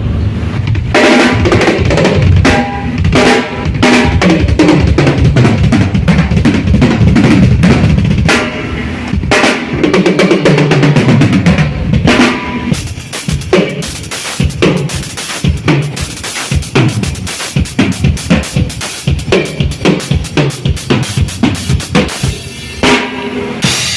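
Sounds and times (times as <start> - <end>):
drum kit playing: 0.5 - 23.9.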